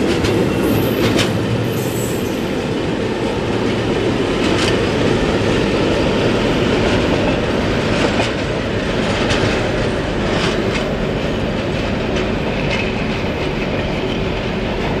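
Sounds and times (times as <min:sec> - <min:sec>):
freight train wheels clattering: 0:00.0 - 0:15.0
train rumble: 0:00.0 - 0:15.0.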